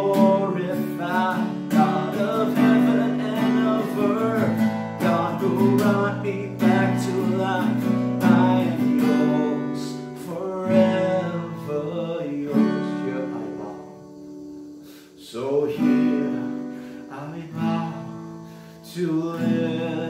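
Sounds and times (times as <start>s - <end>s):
man singing: 0.0s - 14.0s, 15.2s - 20.0s
acoustic guitar strumming: 0.0s - 20.0s.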